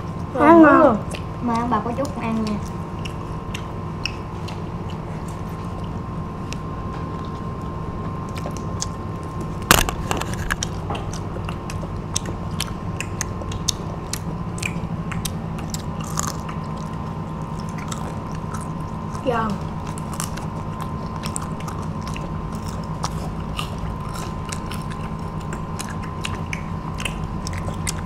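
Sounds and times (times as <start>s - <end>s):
steady background hum: 0.0s - 28.0s
crunchy fried shrimp being chewed: 1.0s - 1.4s, 2.0s - 28.0s.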